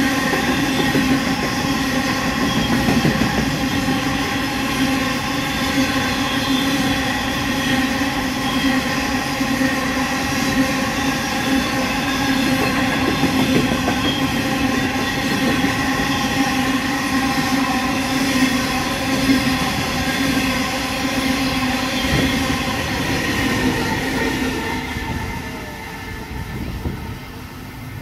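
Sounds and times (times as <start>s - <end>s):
train wheels on rail ringing: 0.0s - 27.2s.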